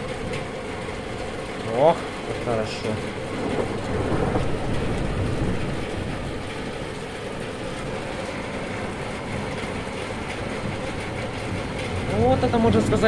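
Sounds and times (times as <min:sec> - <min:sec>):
thunderstorm rumbling with hiss: 0:00.0 - 0:13.0.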